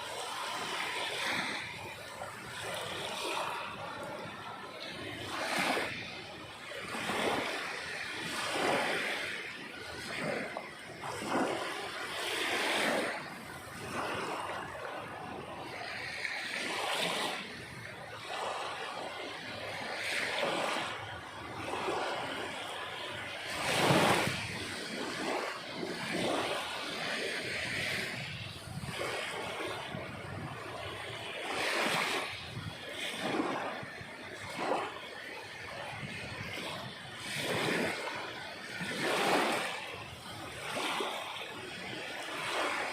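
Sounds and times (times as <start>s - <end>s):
sea waves breaking on shore: 0.0s - 42.9s.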